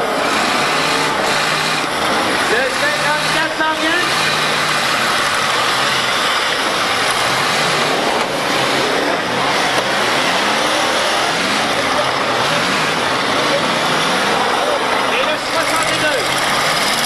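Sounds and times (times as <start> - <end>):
car engines running loud: 0.0 - 17.0
engines revving in rising whines: 0.0 - 17.0.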